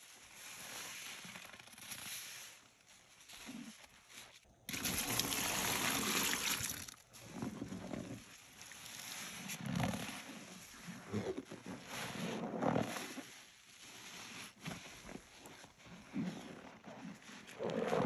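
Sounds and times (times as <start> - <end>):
sponge squeezing with foam hiss: 0.0 - 18.0.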